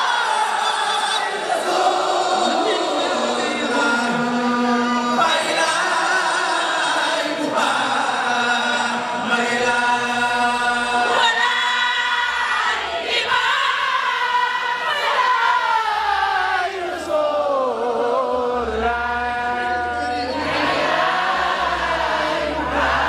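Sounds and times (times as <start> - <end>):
chorus of voices chanting: 0.0 - 23.0.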